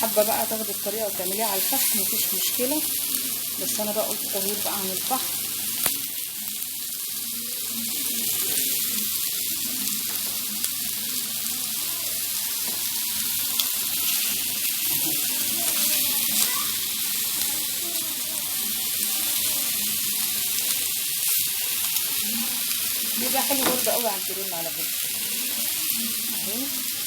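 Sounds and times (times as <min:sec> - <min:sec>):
meat sizzling on grill pan: 0:00.0 - 0:27.0.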